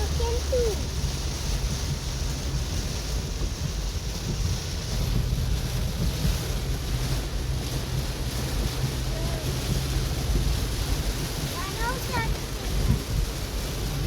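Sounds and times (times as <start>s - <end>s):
engine and road rumble: 0.0s - 14.0s
heavy rain rushing on car: 0.0s - 14.0s.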